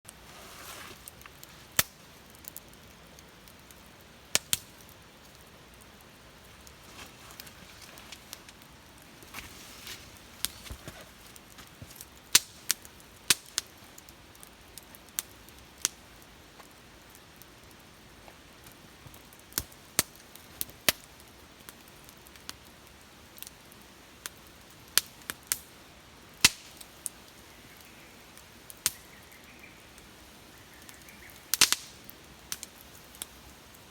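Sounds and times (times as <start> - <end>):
faint steady hiss: 0.0 - 33.9
wood fire crackling: 0.1 - 33.9.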